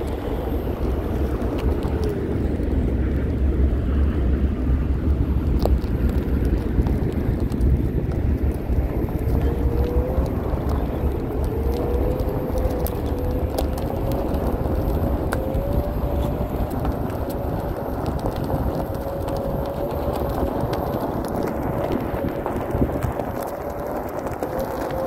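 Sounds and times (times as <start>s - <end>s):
electric motor whine: 0.0s - 3.2s, 5.6s - 25.0s
tyre rumbling on asphalt: 0.0s - 25.0s.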